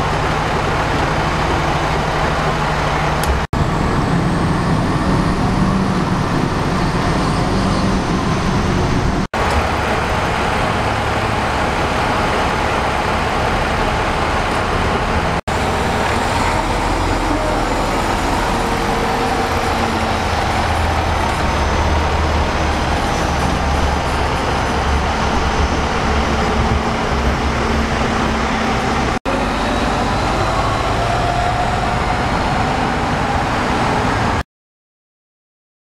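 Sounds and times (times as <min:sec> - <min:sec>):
vehicle engines running: 0:00.0 - 0:34.4.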